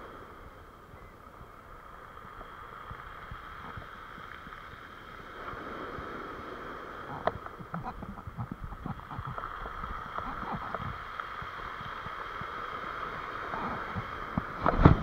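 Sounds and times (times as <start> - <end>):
waves washing up pebble beach: 0.0 - 15.0.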